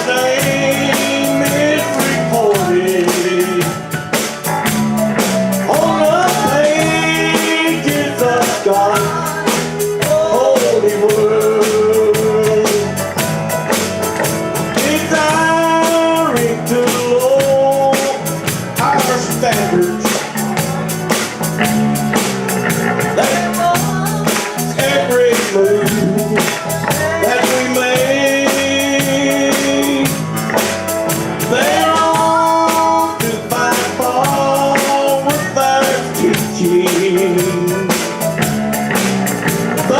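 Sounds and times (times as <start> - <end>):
band playing country gospel: 0.0 - 39.9
drums: 0.0 - 39.9.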